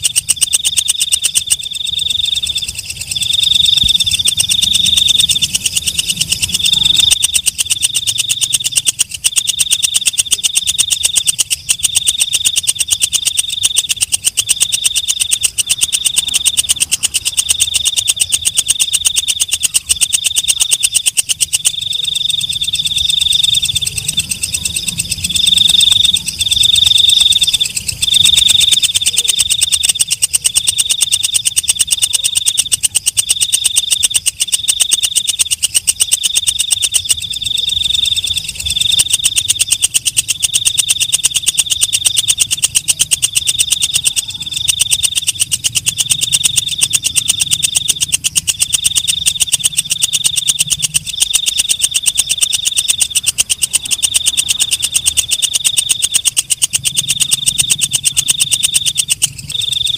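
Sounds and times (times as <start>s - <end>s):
katydid buzzing chirp: 0.0s - 59.9s.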